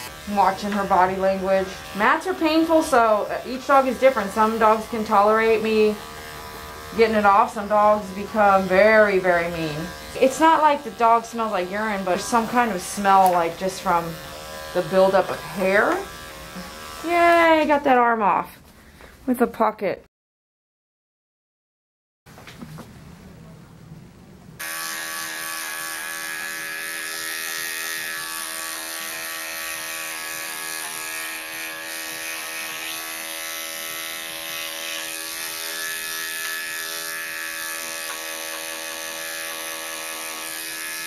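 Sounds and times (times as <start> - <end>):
electric clippers humming: 0.0 - 17.8, 24.6 - 41.0.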